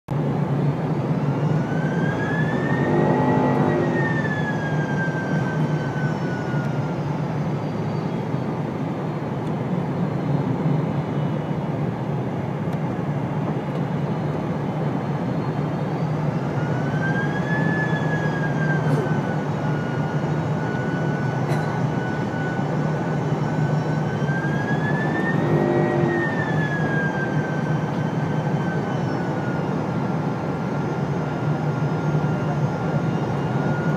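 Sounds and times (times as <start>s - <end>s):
aircraft cabin engine and airflow rush: 0.1s - 33.9s
high whine: 0.7s - 8.6s, 13.8s - 33.9s.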